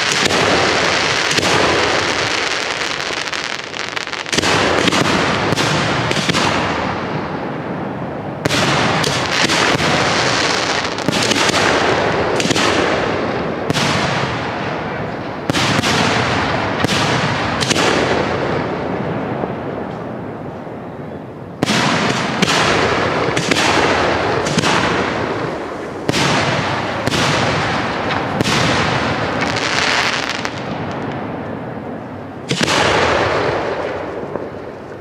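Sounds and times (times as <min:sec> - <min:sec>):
fireworks booming with echo: 0:00.0 - 0:35.0.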